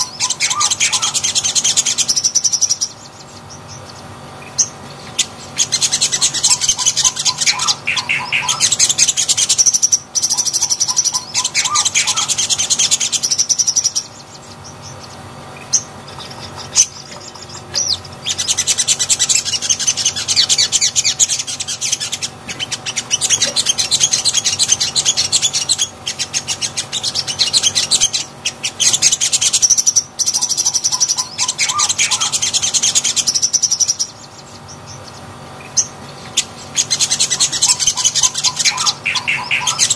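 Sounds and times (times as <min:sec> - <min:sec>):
bird chirps: 0:00.0 - 0:39.9
bird trilling: 0:00.0 - 0:39.9.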